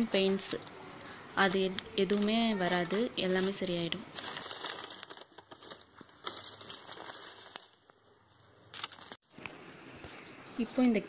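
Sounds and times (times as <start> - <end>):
plants and plastic bag rustling: 0.0 - 9.4.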